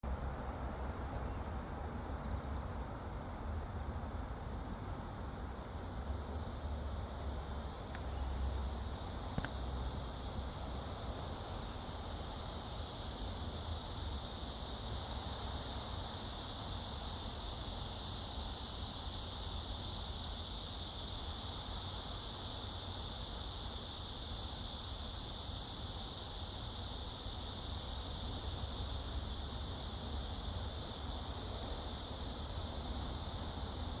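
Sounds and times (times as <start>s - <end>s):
insects chorus: 0.0s - 34.0s.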